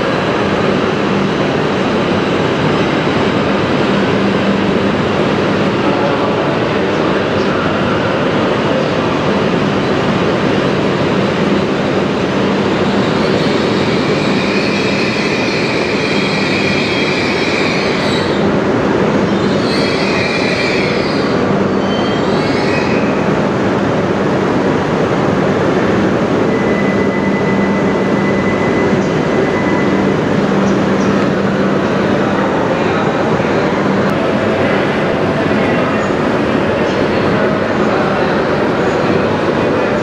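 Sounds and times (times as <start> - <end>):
train rushing noise: 0.0 - 40.0.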